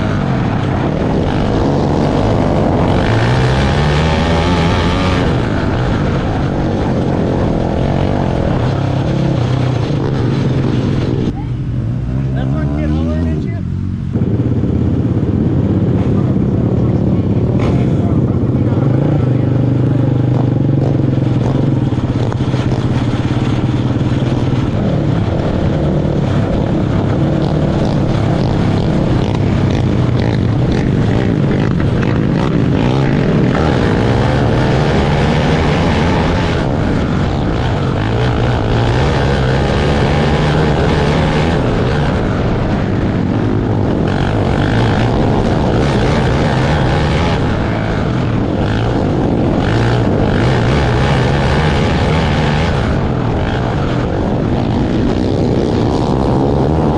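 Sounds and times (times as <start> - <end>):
kart engines racing: 0.0 - 56.9.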